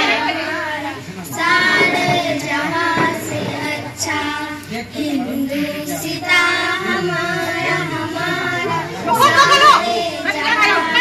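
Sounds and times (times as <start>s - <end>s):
child singing: 0.0s - 11.0s.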